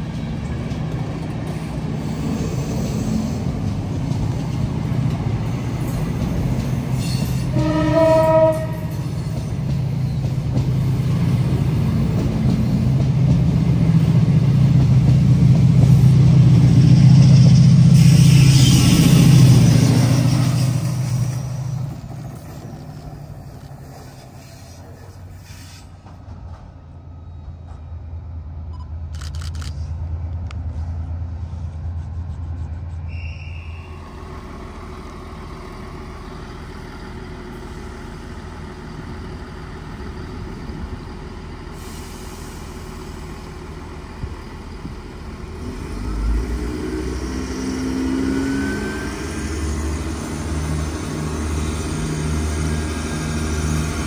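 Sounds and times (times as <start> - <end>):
diesel train engines humming: 0.0 - 29.1, 29.7 - 54.0
diesel locomotive engine drone: 0.0 - 54.0.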